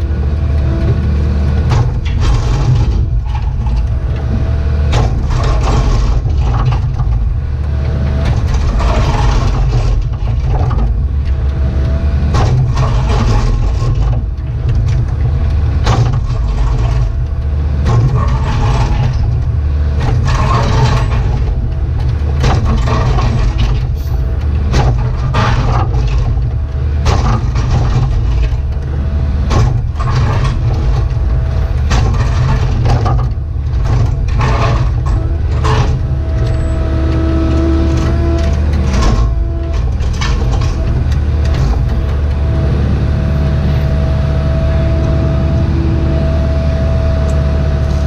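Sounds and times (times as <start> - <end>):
bucket clanking and scraping stones: 0.0 - 44.5
excavator diesel engine running: 0.0 - 48.0.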